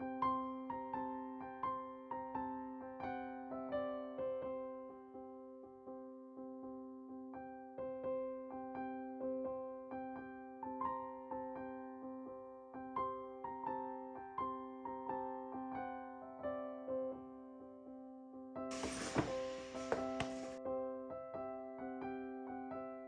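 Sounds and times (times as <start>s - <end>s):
gentle piano melody: 0.0s - 23.0s.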